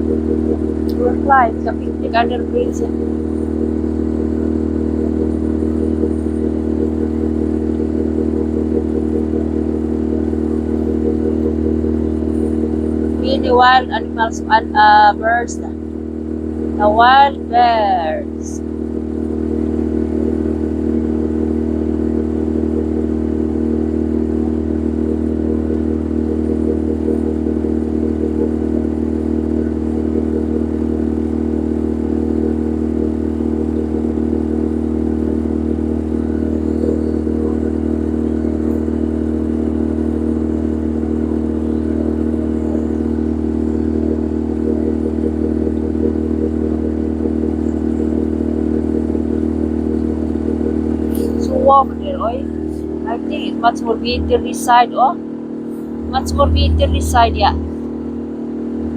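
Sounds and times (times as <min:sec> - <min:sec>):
boat engine droning: 0:00.0 - 0:58.9.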